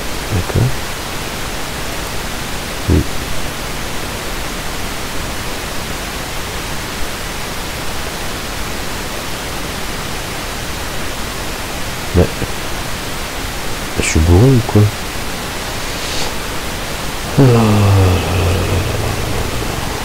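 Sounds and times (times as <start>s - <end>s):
recording noise hiss: 0.0s - 20.0s.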